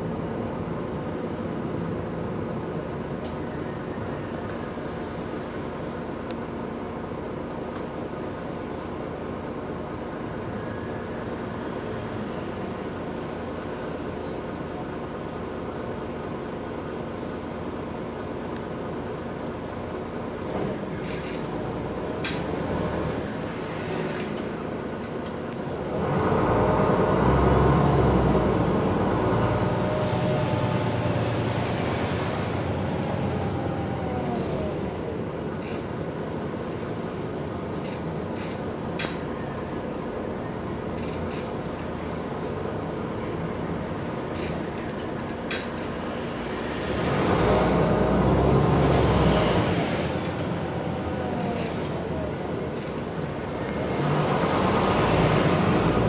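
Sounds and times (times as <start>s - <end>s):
bus engine and road hum: 0.0s - 56.0s.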